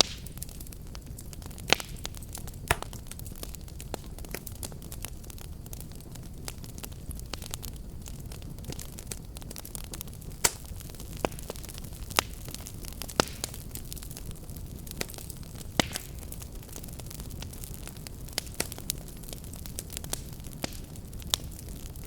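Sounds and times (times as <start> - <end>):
fire crackling and popping: 0.0 - 22.0
fire low rumble: 0.0 - 22.0.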